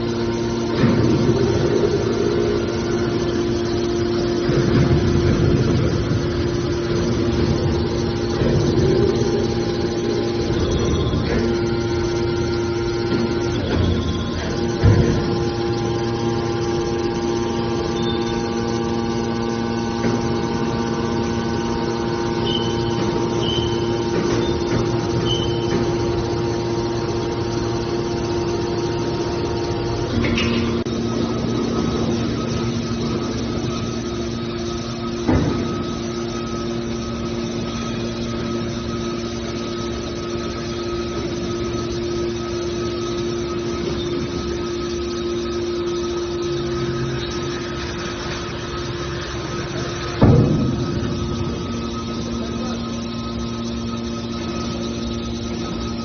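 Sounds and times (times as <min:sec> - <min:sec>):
baler motor and pump humming: 0:00.0 - 0:56.0.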